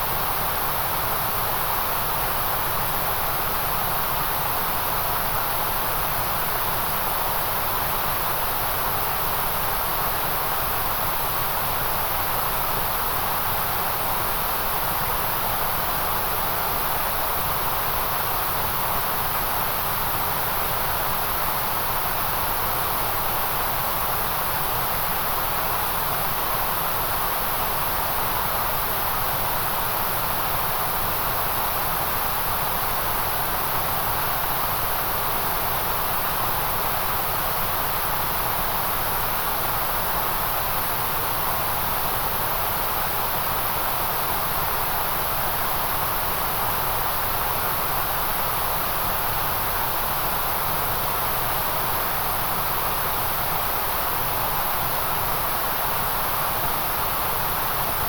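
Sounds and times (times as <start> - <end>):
steady synthetic hiss: 0.0 - 58.0.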